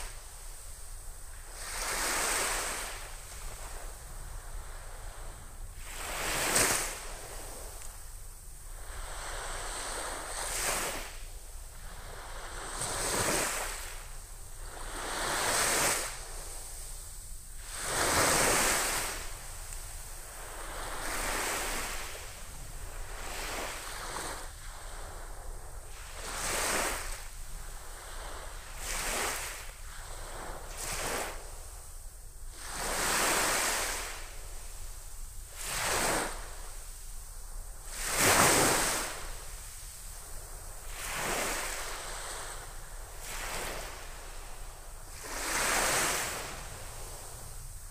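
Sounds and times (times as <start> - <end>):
gentle waves on a sandy beach: 0.0 - 47.9.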